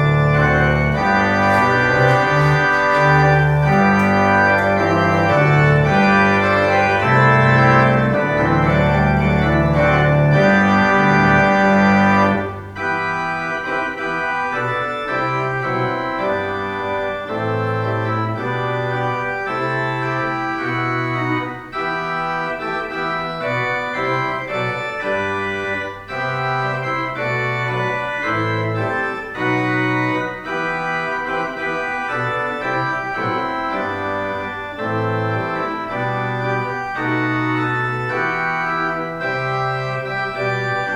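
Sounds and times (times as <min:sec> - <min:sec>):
church organ playing march: 0:00.0 - 0:40.9.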